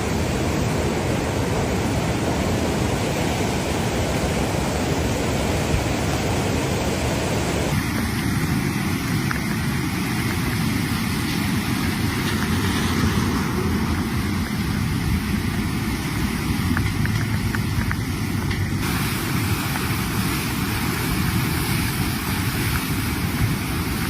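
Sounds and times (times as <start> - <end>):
rushing floodwater: 0.0 - 24.0.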